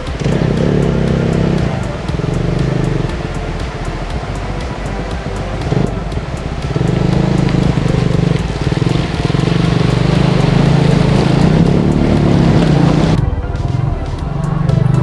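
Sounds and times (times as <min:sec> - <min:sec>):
hiss: 0:00.0 - 0:13.2
background music with beat: 0:00.0 - 0:15.0
motorcycle engine running: 0:00.0 - 0:15.0
water splashing: 0:00.0 - 0:15.0.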